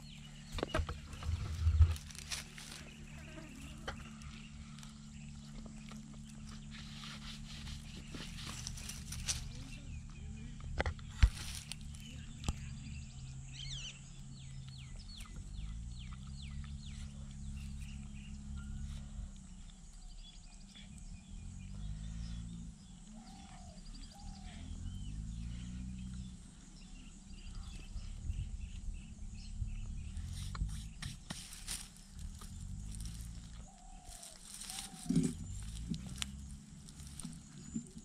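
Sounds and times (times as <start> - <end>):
birds chirping: 0.0 - 38.0
deep droning rumble: 0.0 - 38.0.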